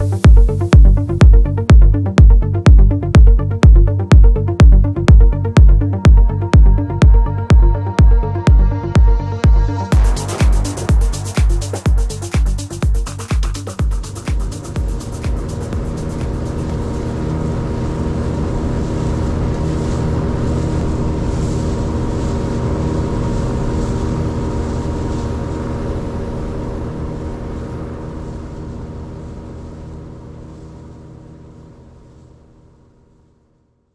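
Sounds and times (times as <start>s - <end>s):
motor engine humming: 0.0s - 30.7s.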